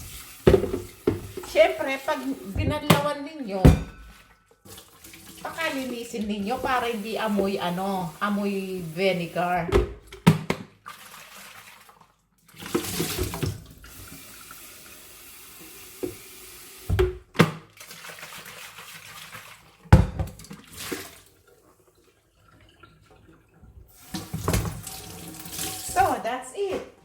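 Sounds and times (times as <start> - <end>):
tap water running into pot: 0.0 - 26.2.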